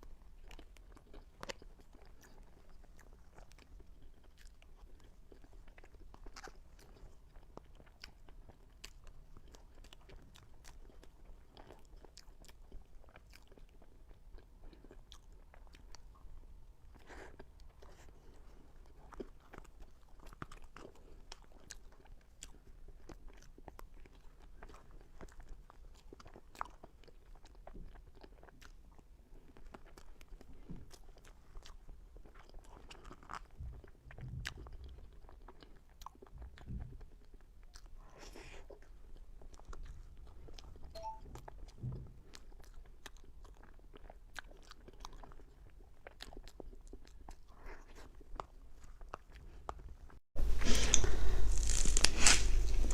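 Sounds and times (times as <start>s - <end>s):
chewing and mouth sounds: 0.0s - 52.9s.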